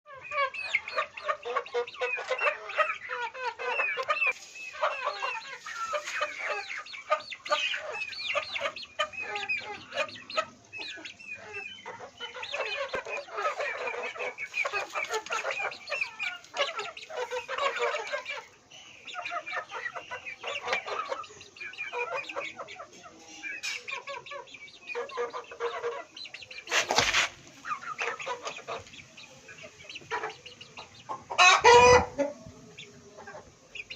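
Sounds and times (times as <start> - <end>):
chickens clucking and chirping: 0.1 - 33.9.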